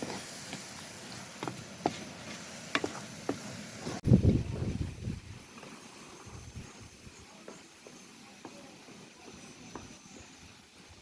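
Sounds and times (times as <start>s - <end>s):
fire crackles: 0.0s - 11.0s
wood fire hissing: 0.0s - 11.0s.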